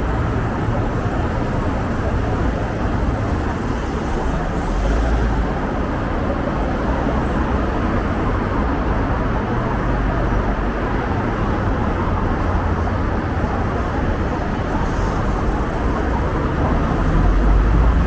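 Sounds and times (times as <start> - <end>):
passing cars: 0.0 - 18.0.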